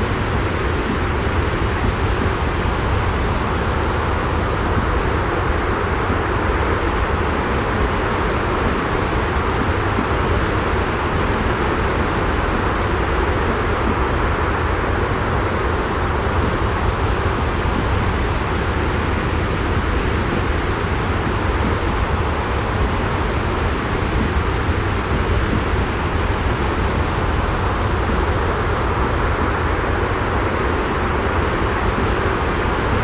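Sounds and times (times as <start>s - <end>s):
rushing noise with deep rumble: 0.0s - 33.0s.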